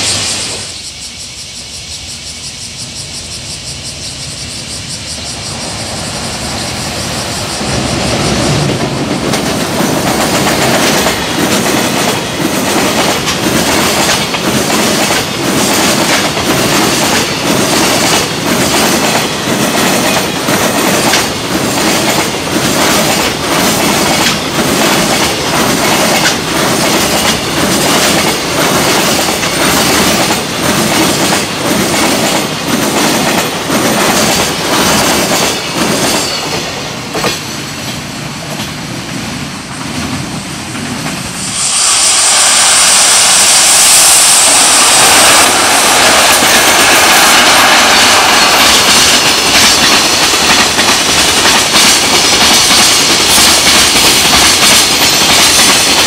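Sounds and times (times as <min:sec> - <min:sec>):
freight train wheels rushing: 0:00.0 - 0:56.0.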